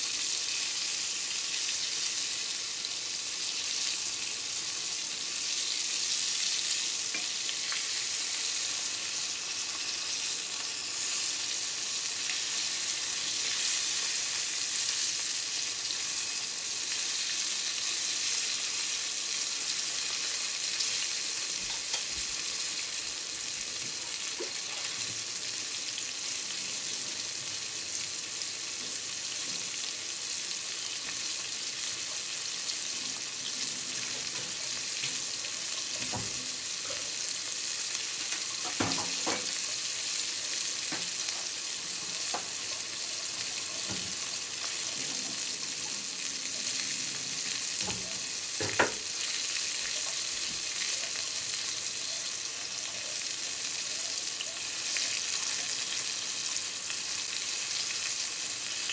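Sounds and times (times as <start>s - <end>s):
tempura sizzling in oil: 0.0s - 58.9s.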